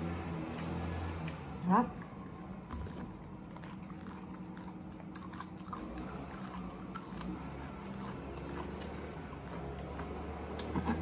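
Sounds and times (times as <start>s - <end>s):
low background hum: 0.0s - 11.0s
chewing: 0.4s - 11.0s.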